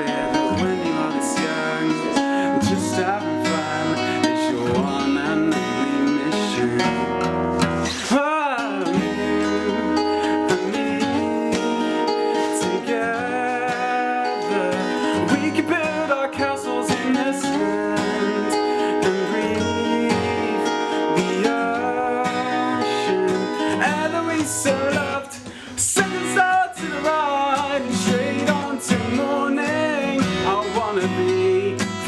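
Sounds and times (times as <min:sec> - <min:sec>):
person singing wordless lines: 0:00.0 - 0:32.0
strummed acoustic guitar: 0:00.0 - 0:32.0.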